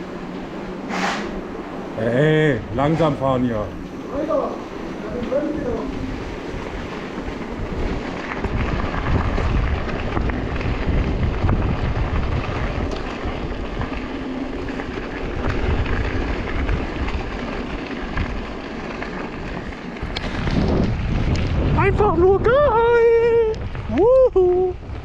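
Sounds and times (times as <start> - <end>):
tyres rolling over dirt: 0.0 - 25.0
wind rumble on microphone: 0.0 - 25.0
bike clicks and rattles: 0.2 - 25.0.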